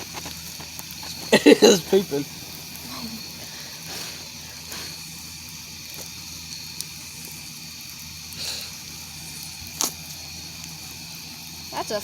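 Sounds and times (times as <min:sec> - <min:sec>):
campfire hissing and crackling: 0:00.0 - 0:12.0
crickets trilling: 0:00.0 - 0:12.0.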